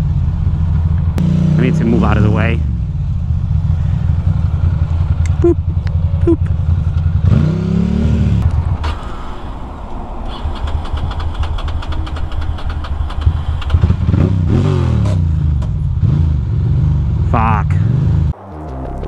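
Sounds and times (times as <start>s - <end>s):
motorcycle engine revving: 0.0s - 9.4s, 10.3s - 19.0s.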